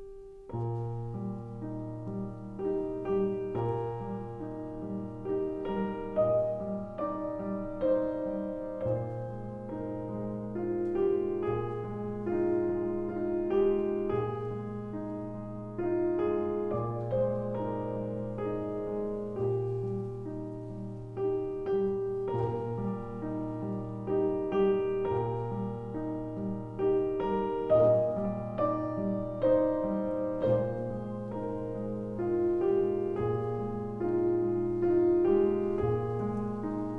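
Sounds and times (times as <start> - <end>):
piano melody: 0.0 - 36.9.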